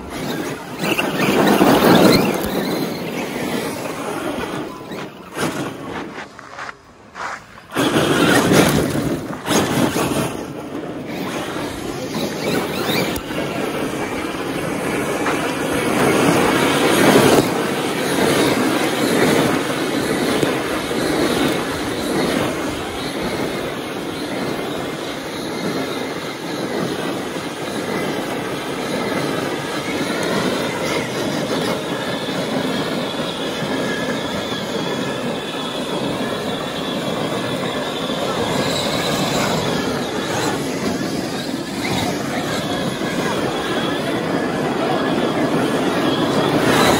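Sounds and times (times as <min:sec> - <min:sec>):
electric motors whining: 0:00.0 - 0:06.7, 0:07.5 - 0:46.9
tyres churning dirt: 0:00.0 - 0:46.9.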